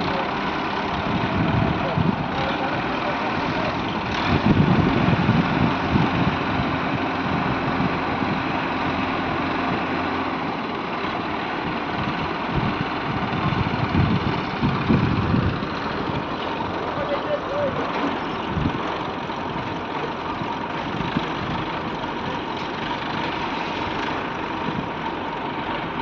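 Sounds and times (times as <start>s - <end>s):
heavy machinery engine rumbling: 0.0s - 26.0s.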